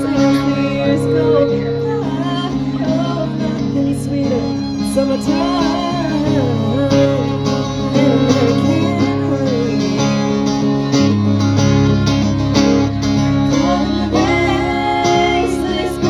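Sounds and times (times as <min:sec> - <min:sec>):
person singing: 0:00.0 - 0:10.8, 0:13.5 - 0:16.0
acoustic guitar: 0:00.0 - 0:16.0
country band playing: 0:00.0 - 0:16.0.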